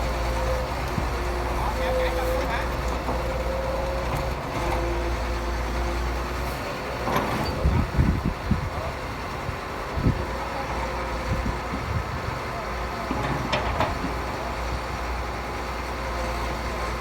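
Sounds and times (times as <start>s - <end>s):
construction machinery engine rumble: 0.0s - 17.0s.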